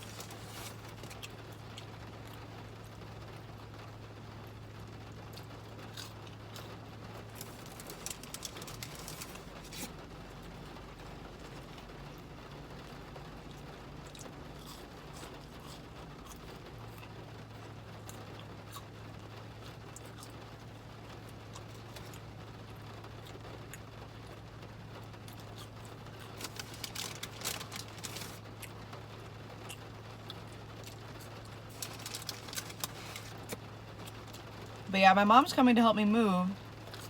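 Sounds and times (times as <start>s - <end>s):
light rain pattering: 0.0s - 37.0s
low steady hum: 0.0s - 37.0s.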